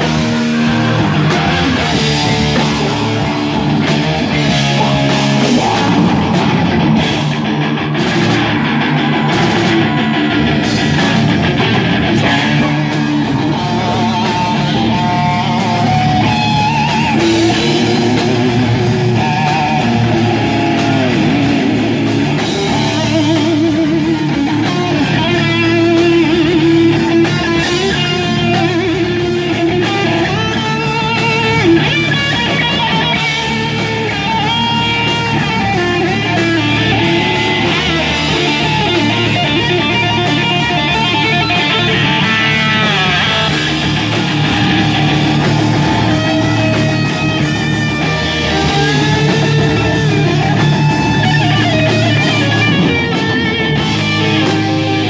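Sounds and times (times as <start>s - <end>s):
bass guitar: 0.0s - 55.0s
distorted electric guitars: 0.0s - 55.0s
drums: 0.0s - 55.0s.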